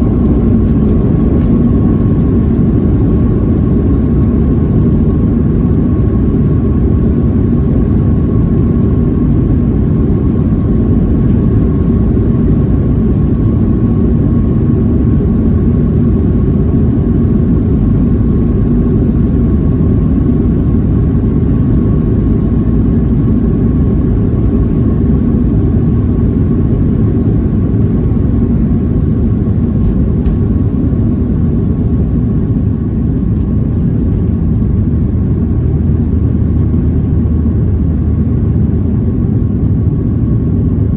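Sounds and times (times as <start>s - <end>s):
jet engine cabin roar: 0.0s - 40.9s.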